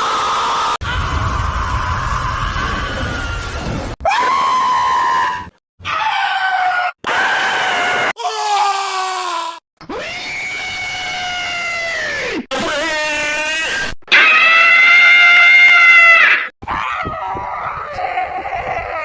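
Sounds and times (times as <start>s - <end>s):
people screaming: 0.0s - 19.0s.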